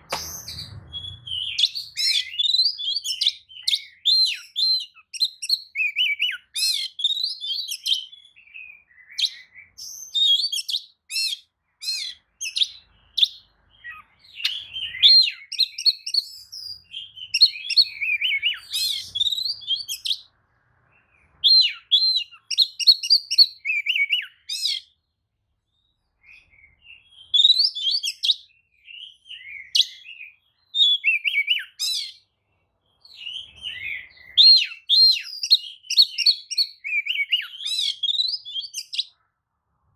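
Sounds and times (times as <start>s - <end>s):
bird singing whistles and chirps: 0.0s - 25.0s, 25.7s - 39.2s.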